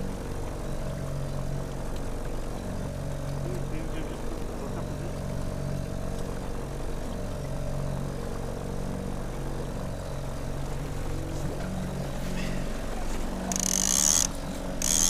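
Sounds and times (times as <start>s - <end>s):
outboard motor running: 0.0s - 15.0s
wind and water hiss: 0.0s - 15.0s.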